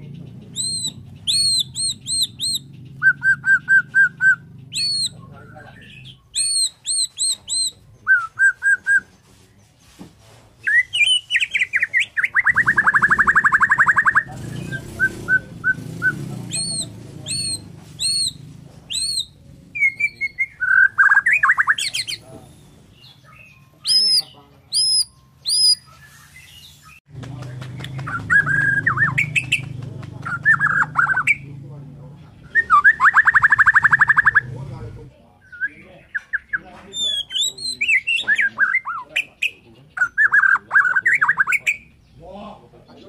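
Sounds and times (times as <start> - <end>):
bird whistling song: 0.4 - 9.3, 10.6 - 27.0, 27.8 - 31.5, 32.3 - 34.5, 35.4 - 42.2.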